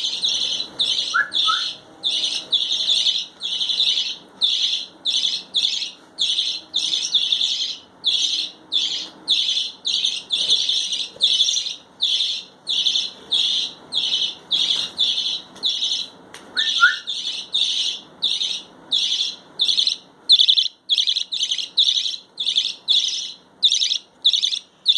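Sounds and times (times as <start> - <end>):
budgerigar chirping: 0.0 - 24.9.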